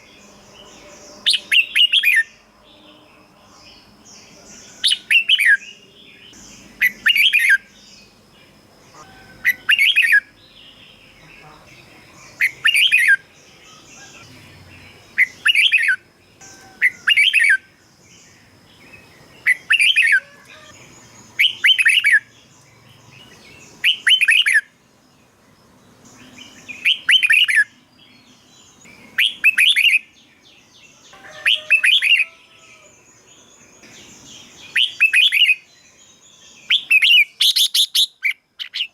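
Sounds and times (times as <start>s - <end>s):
bulbul singing warbled phrases: 0.0s - 38.9s.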